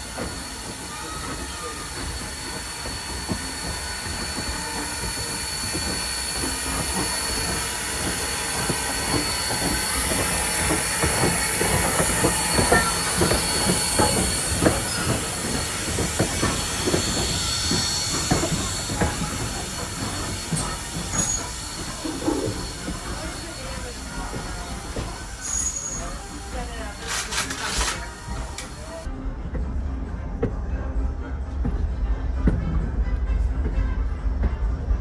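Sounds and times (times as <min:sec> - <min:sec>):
steam train hissing: 0:00.0 - 0:29.1
wheels clicking over rails: 0:00.0 - 0:29.1.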